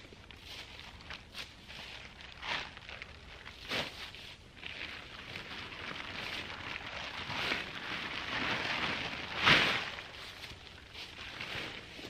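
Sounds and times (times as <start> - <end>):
tent fabric rustling and crinkling: 0.0 - 12.0.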